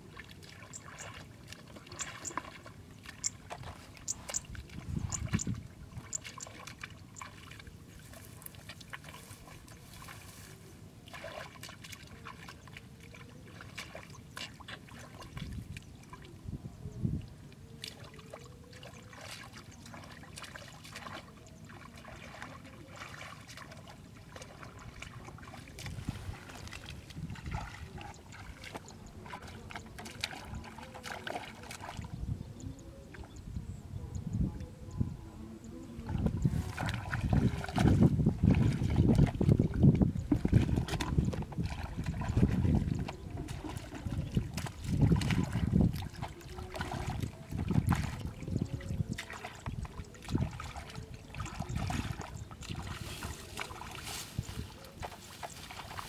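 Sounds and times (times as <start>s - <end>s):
mud squelching: 0.0s - 16.4s, 17.5s - 32.2s, 36.0s - 56.0s
water splashing and sloshing: 0.0s - 32.3s, 35.7s - 56.0s.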